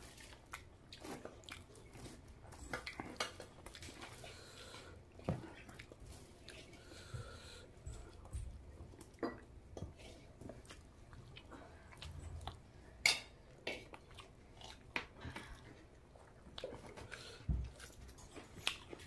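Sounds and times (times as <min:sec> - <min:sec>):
person chewing with mouth smacks: 0:00.0 - 0:19.0.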